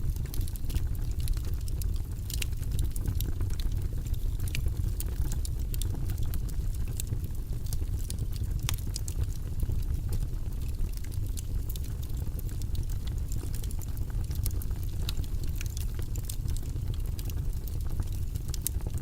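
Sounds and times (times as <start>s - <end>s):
fire crackling and popping: 0.0s - 19.0s
fire low rumble: 0.0s - 19.0s.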